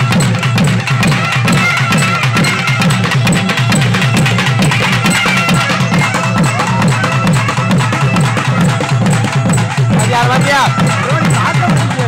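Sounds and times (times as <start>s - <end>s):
drums beating fast rhythm: 0.0s - 12.0s
reedy wind instrument melody: 0.0s - 12.0s.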